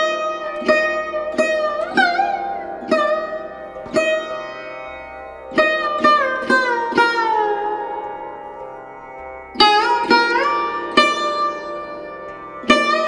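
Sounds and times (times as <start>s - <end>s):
plucked string instrument notes: 0.0s - 13.0s.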